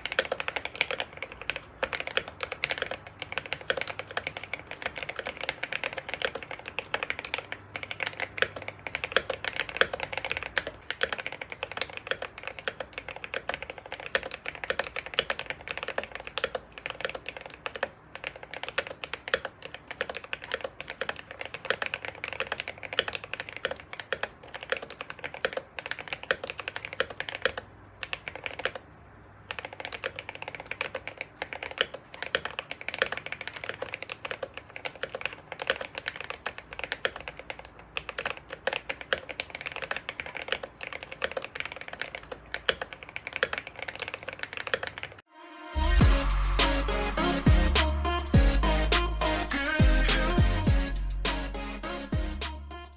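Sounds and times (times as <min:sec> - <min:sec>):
fast mechanical keyboard typing: 0:00.0 - 0:45.3.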